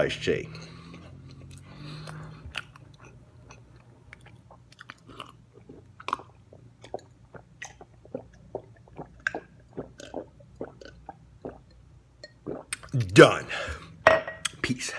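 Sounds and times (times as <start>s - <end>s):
low steady hum: 0.0s - 14.9s
man chewing: 0.5s - 12.8s
man gulping a drink: 1.0s - 13.7s.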